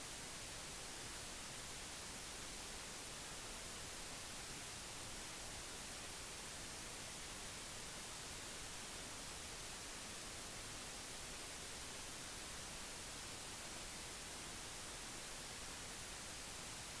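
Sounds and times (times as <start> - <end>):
faint recording hiss: 0.0 - 17.0.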